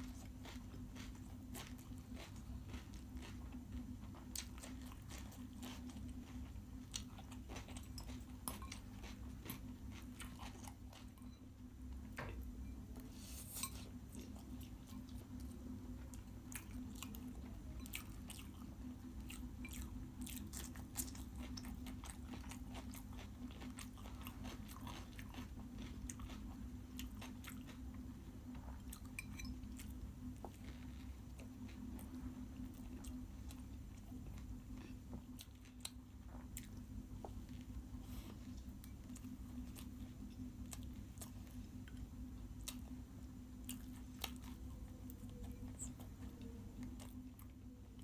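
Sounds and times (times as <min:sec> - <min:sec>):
person chewing food: 0:00.0 - 0:48.0.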